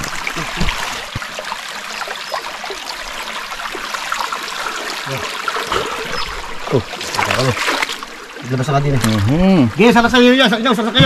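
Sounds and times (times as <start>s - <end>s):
river water running: 0.0s - 11.0s
water trickles and splashes: 0.0s - 11.0s.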